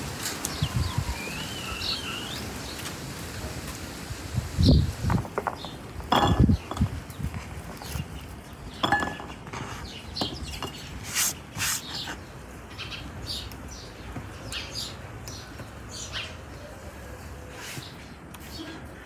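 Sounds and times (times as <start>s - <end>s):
birds chirping: 0.4s - 3.0s, 4.6s - 19.0s.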